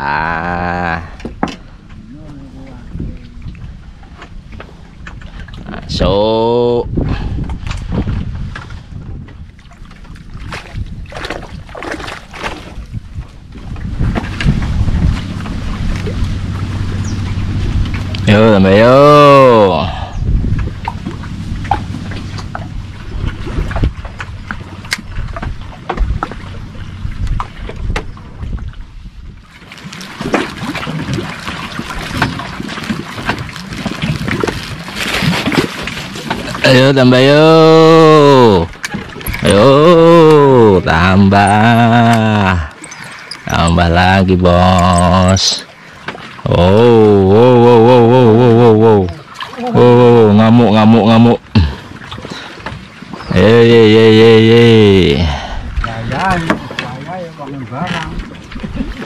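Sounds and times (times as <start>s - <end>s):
wind rumbling on microphone: 0.0s - 45.7s, 46.4s - 59.0s
water splashing and sloshing: 0.0s - 59.0s.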